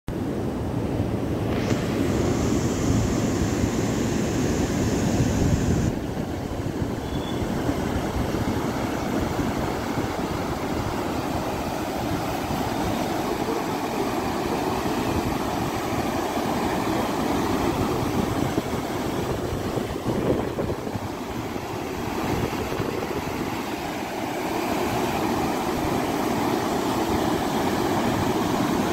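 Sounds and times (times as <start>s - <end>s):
flowing water rushing: 0.2s - 28.9s.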